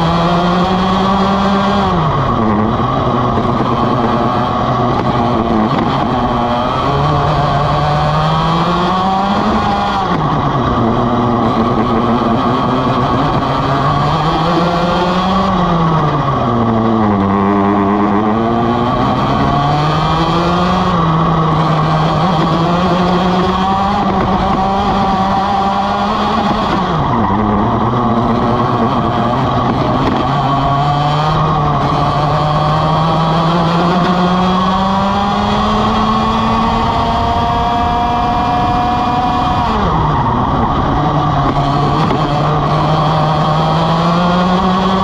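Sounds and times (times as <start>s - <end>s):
kart engine racing: 0.0s - 45.0s.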